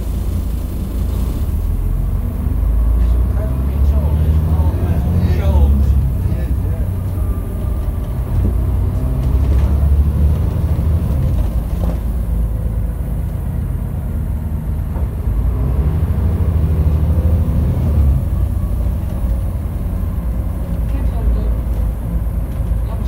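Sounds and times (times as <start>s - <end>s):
bus diesel engine pulling away: 0.0s - 23.0s.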